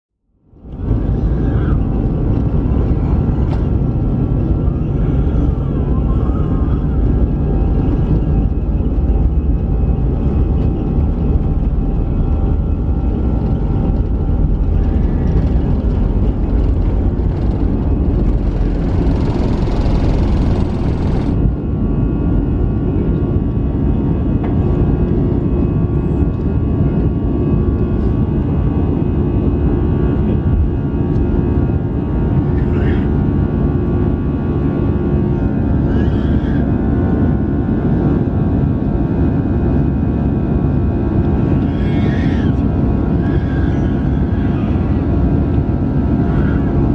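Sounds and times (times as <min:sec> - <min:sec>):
jet engines roaring: 0:00.5 - 0:46.9.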